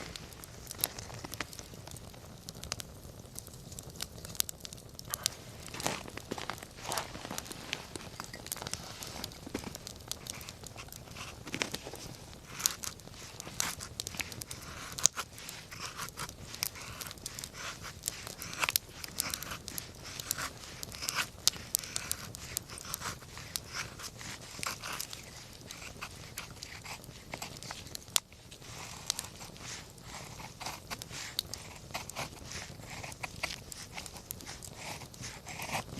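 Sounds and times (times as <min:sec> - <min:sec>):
campfire crackling and popping: 0:00.0 - 0:35.9
faint steady hiss: 0:00.0 - 0:35.9.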